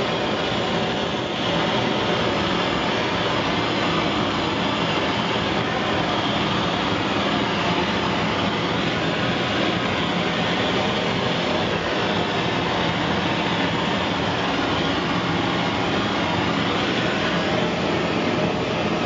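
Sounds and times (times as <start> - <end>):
propane torch roaring: 0.0 - 19.0.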